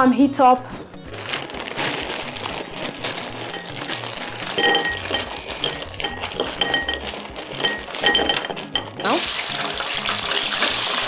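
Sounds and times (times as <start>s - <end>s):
plastic bag crinkling: 0.6s - 11.0s
fries clattering on ceramic plate: 1.4s - 11.0s.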